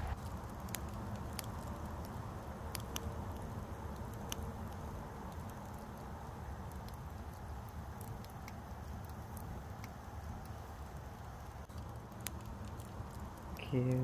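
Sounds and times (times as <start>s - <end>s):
fire pops: 0.0s - 13.7s
campfire crackling: 0.0s - 14.0s
low steady rumble: 0.0s - 14.0s.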